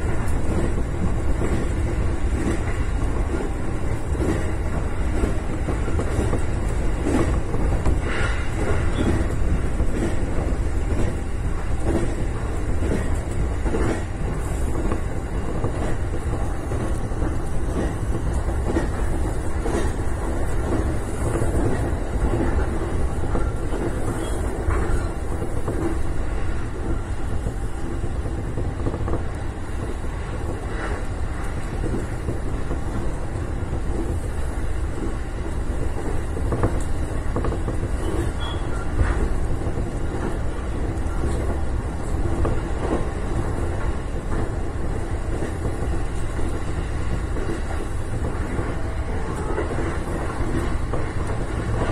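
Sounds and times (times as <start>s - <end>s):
clacks over rail joints: 0.0s - 51.9s
train wheels rumbling on rail: 0.0s - 51.9s.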